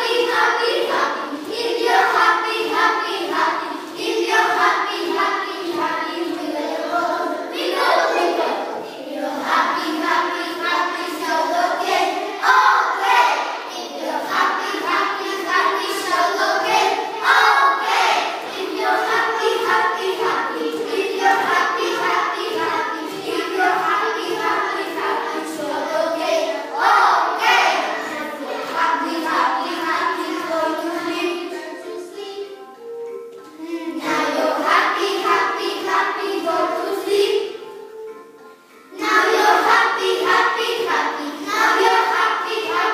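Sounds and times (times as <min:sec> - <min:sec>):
children singing in unison: 0:00.0 - 0:42.9.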